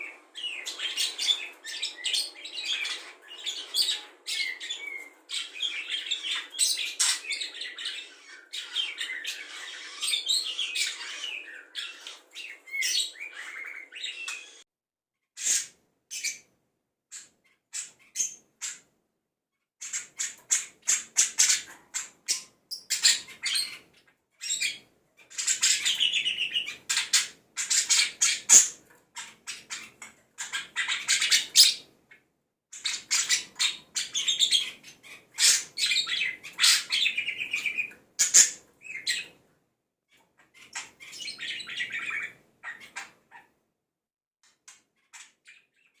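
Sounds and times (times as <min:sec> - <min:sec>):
budgerigar chirping and warbling: 0:00.0 - 0:14.6, 0:17.1 - 0:18.9, 0:19.8 - 0:39.4, 0:40.4 - 0:43.6, 0:45.0 - 0:46.0.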